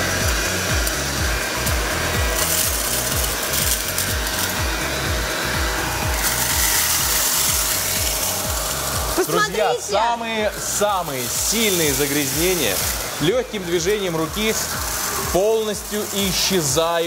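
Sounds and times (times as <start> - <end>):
vacuum cleaner hissing: 0.0 - 17.0
brush rubbing on carpet: 1.4 - 9.5, 10.6 - 17.0.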